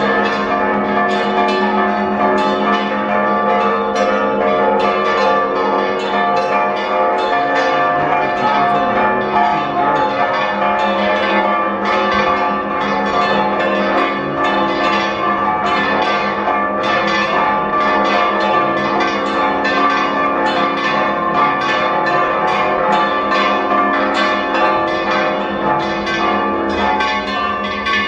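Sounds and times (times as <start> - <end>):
church bells pealing rapidly: 0.0 - 28.0.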